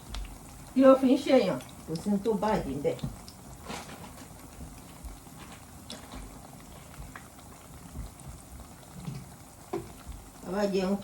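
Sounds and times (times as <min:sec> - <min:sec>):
food bubbling on stove: 0:00.0 - 0:11.0.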